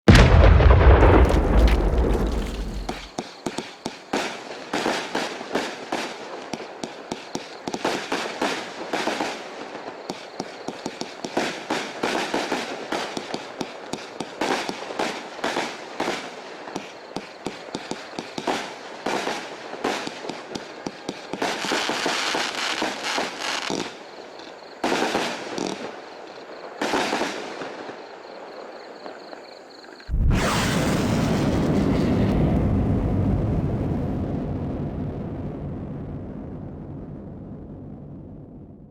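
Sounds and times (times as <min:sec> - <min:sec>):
firework bangs and crackling: 0:00.0 - 0:28.2, 0:29.0 - 0:38.8.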